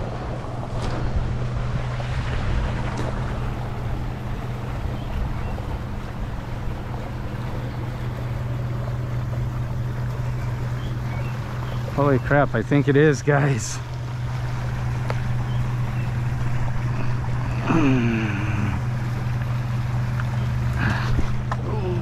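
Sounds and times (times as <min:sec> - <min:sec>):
constant low hum: 0:00.0 - 0:22.0
river water flowing: 0:00.0 - 0:22.0.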